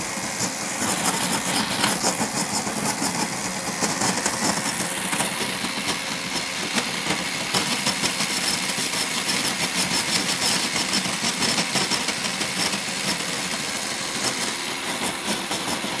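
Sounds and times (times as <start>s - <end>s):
snow cone machine motor rattling: 0.0s - 16.0s.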